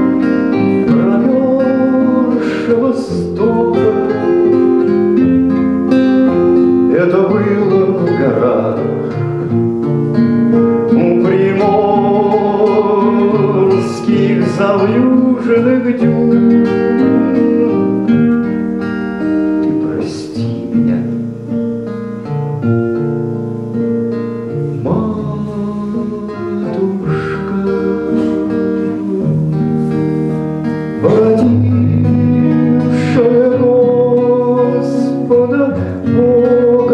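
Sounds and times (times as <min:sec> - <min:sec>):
man singing: 0:00.0 - 0:18.8, 0:19.4 - 0:21.4, 0:24.4 - 0:36.9
acoustic guitar playing: 0:00.0 - 0:36.9.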